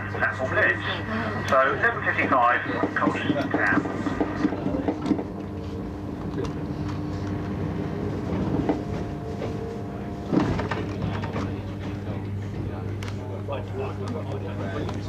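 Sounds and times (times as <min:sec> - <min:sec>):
wheels rumbling on track: 0:00.0 - 0:12.9
traction motors humming: 0:00.0 - 0:15.0.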